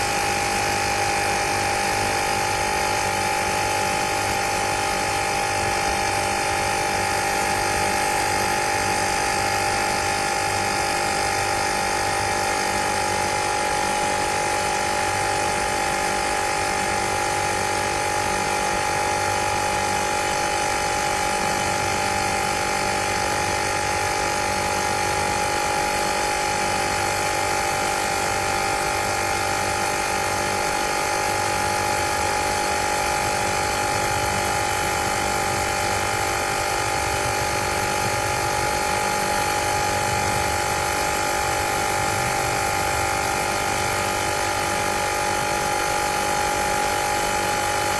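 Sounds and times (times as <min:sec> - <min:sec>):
air compressor running: 0:00.0 - 0:47.9.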